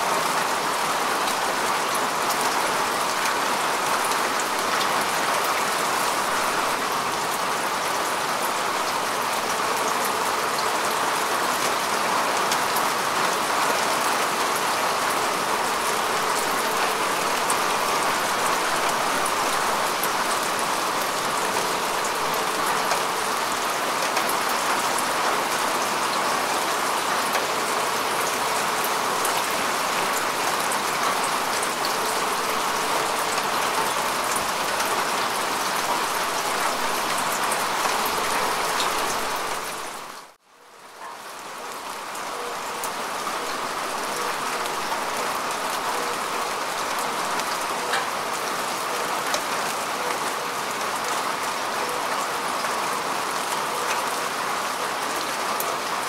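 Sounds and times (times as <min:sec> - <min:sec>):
rain falling on grass: 0:00.0 - 0:56.0.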